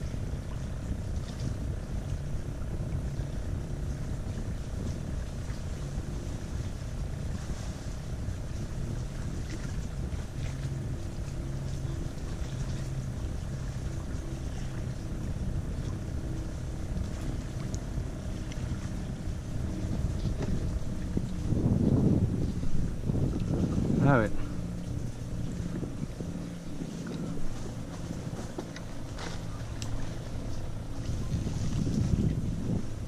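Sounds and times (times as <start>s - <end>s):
low steady hum: 0.0s - 33.0s
wind noise on microphone: 0.0s - 33.0s.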